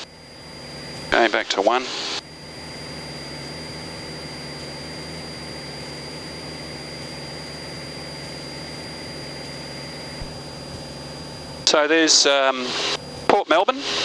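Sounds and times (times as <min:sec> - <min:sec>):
aircraft engine and propeller droning: 0:00.0 - 0:14.0
faint high whine: 0:00.0 - 0:14.0.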